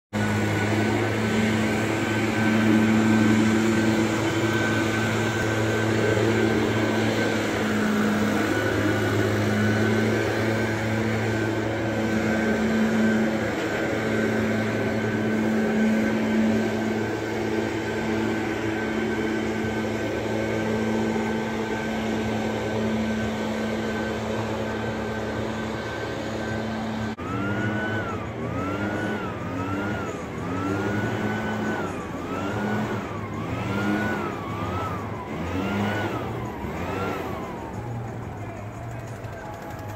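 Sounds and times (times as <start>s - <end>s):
high whine: 0.1s - 39.9s
rushing noise: 0.1s - 39.9s
sweeper engine hum: 0.1s - 39.9s.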